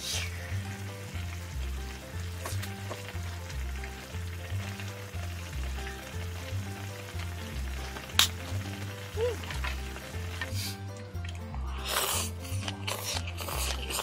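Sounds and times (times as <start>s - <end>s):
background music with bass line: 0.0s - 14.0s
ribs sizzling in a pan: 0.0s - 14.0s.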